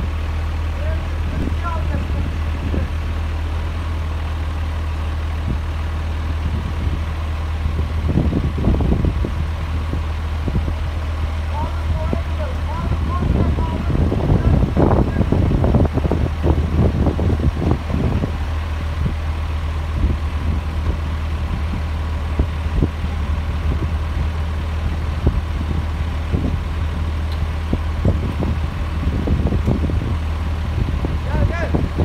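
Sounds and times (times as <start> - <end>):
diesel engines idling: 0.0 - 32.0.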